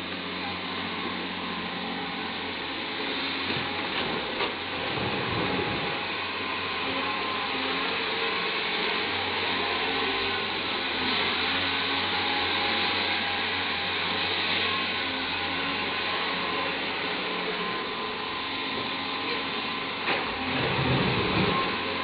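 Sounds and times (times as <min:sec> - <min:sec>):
excavator engine and hydraulic drone: 0:00.0 - 0:22.0.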